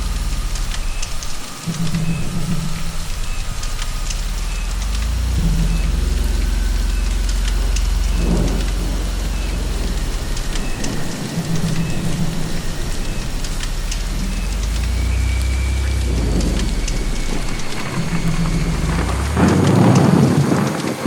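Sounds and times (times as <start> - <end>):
low rumble of thunder: 0.0 - 21.0
rain pattering: 0.0 - 21.0.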